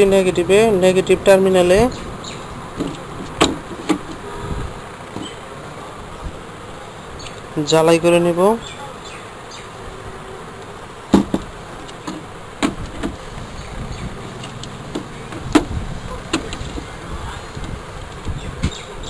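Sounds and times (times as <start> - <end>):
steady buzzing hum: 0.0 - 19.0.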